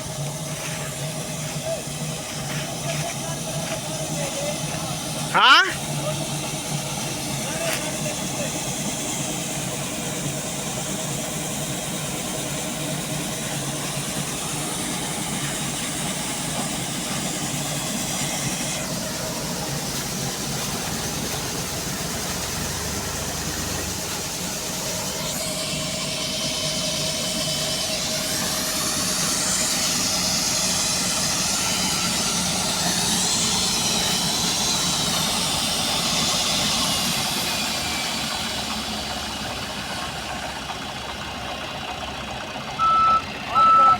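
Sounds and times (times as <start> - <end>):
high wavering whine: 0.0 - 38.7
combine harvester engine drone: 0.0 - 43.9.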